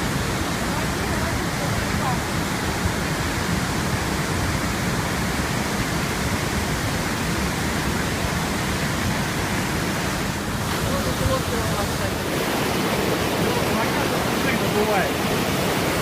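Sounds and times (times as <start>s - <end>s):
rush of falling water: 0.0s - 16.0s.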